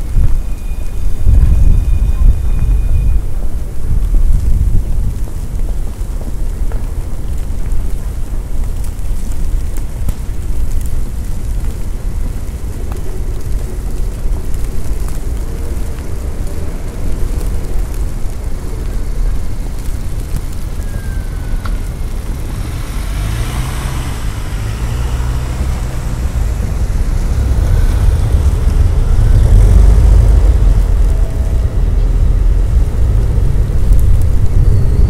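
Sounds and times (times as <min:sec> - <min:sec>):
tyres hissing on snowy road: 0:00.0 - 0:35.0
wind buffeting microphone: 0:00.0 - 0:35.0.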